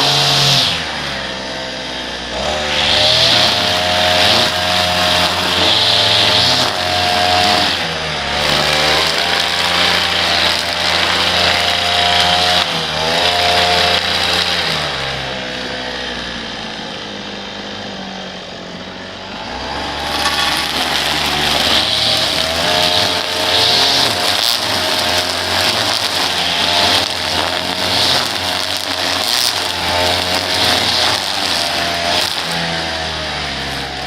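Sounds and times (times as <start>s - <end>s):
small petrol engine running: 0.0s - 34.0s.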